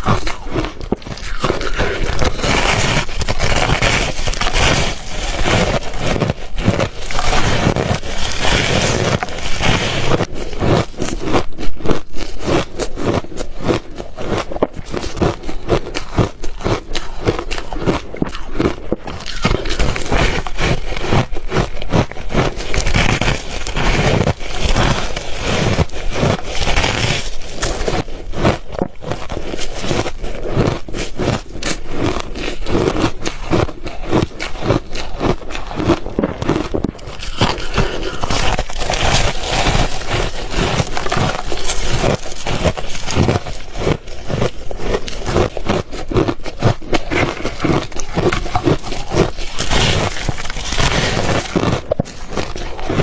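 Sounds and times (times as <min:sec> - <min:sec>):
ice crunching being chewed: 0:00.0 - 0:53.0.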